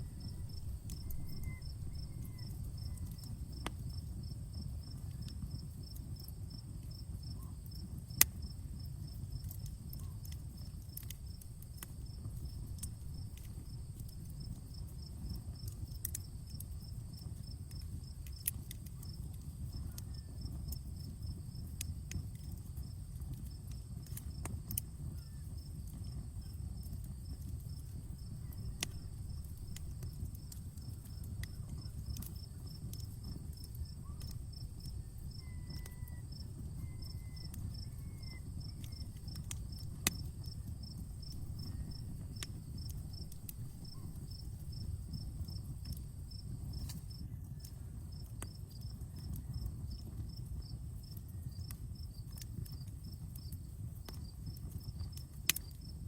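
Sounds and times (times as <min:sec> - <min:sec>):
campfire crackling and popping: 0:00.0 - 0:56.0
cricket chirping: 0:00.0 - 0:56.0.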